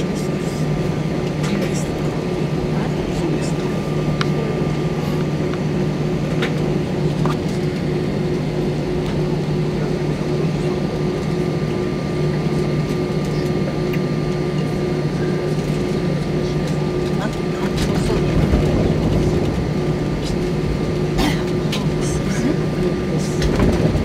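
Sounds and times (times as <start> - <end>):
constant low hum: 0.0 - 24.0
jet engines droning in cabin: 0.0 - 24.0.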